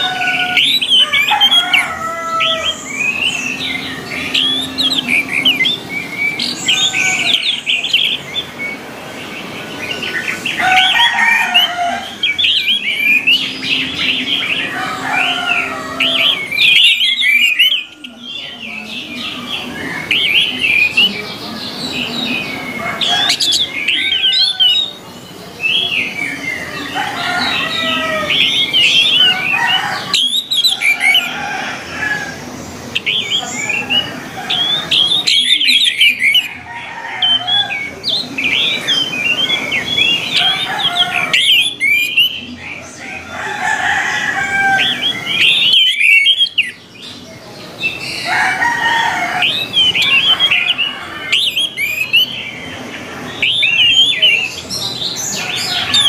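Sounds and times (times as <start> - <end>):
thrushes singing: 0.0 - 56.0.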